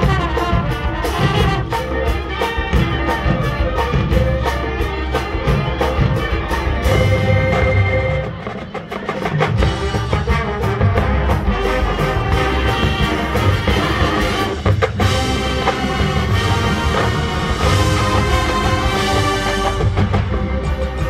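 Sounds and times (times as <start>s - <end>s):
marching band playing: 0.0s - 21.0s.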